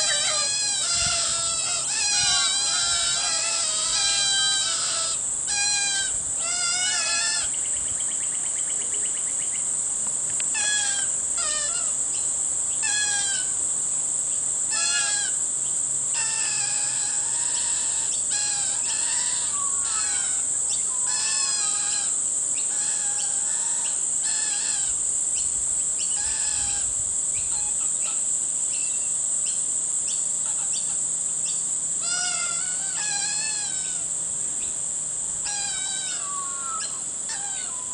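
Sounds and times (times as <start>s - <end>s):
harsh bird begging calls: 0.0s - 9.6s, 10.6s - 13.6s, 14.7s - 15.4s, 16.1s - 29.1s, 32.0s - 34.8s, 35.4s - 37.9s
high insect buzz: 0.0s - 37.9s.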